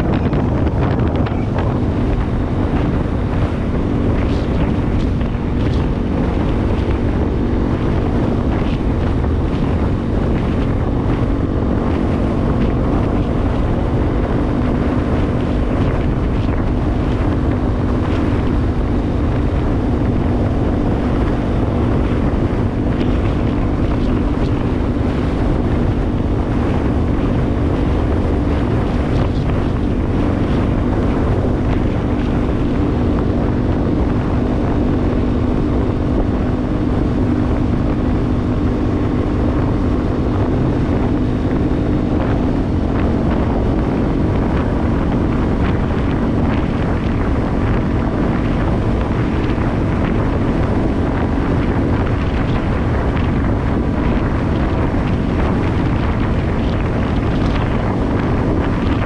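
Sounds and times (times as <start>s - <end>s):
motorcycle engine cruising: 0.0s - 59.0s
wind noise on microphone: 0.0s - 59.0s.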